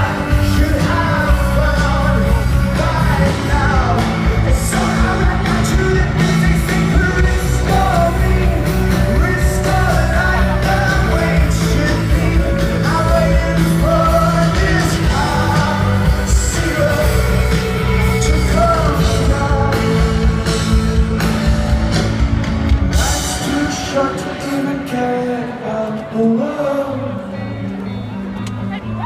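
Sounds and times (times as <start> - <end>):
man singing: 0.0 - 22.0, 22.8 - 28.1
rock band playing live: 0.0 - 29.0.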